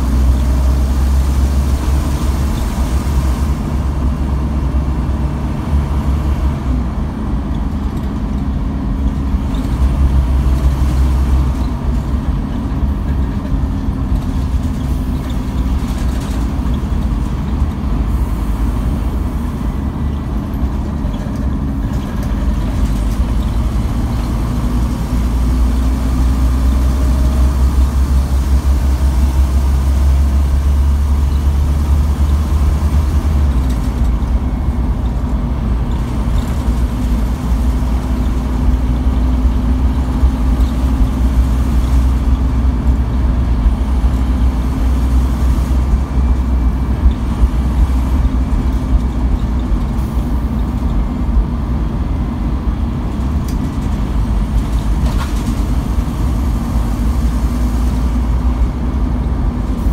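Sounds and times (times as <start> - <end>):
bus diesel engine drone: 0.0 - 59.9
road noise: 0.0 - 59.9.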